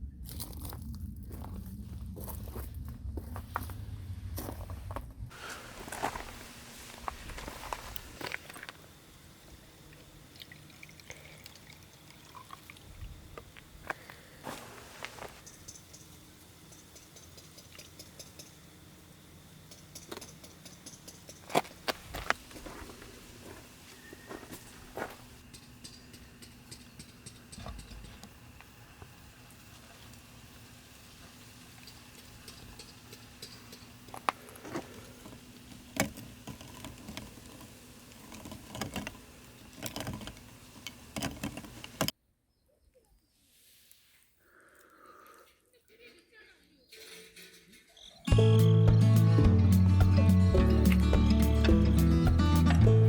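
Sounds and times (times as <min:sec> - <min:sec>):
faint steady hum: 0:00.0 - 0:42.6.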